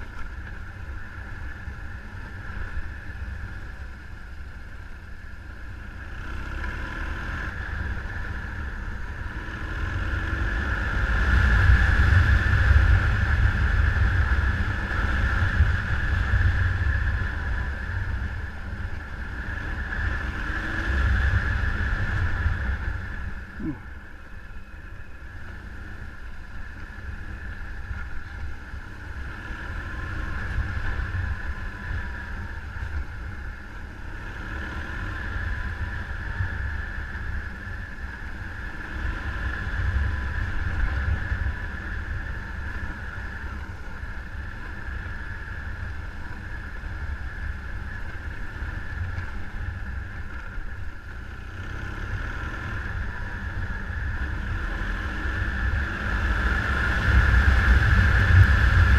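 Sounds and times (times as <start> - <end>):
vehicle engine: 0.0 - 58.9.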